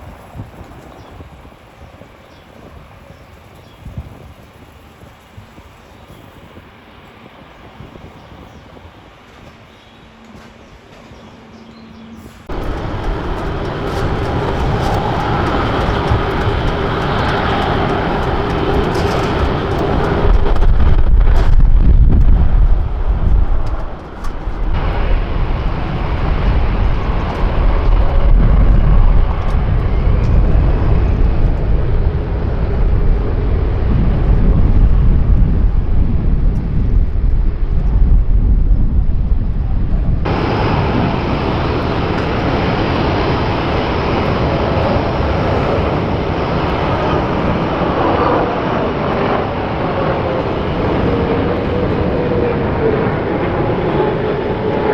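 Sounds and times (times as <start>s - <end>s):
jet airliner engine rumble: 0.0s - 54.9s.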